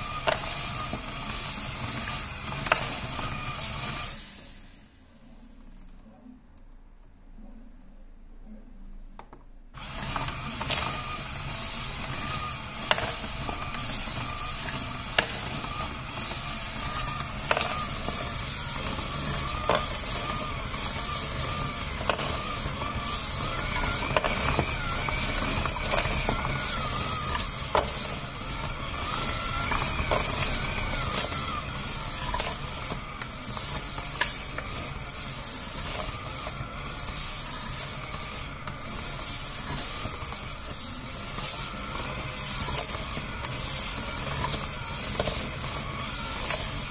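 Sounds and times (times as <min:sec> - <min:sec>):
polishing media rushing with clicks: 0:00.0 - 0:04.3, 0:09.8 - 0:46.9
tumbler motor running: 0:00.0 - 0:05.0, 0:09.8 - 0:46.9.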